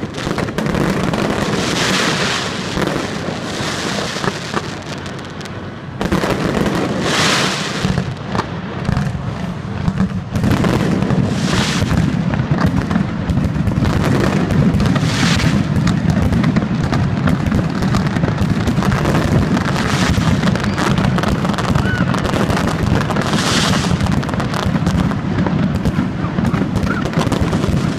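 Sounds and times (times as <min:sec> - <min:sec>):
fireworks bursting and crackling: 0:00.0 - 0:27.9.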